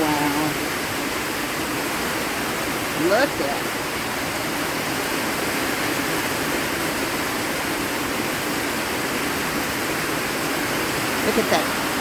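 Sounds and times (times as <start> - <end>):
heavy rain on a metal roof: 0.0 - 12.0.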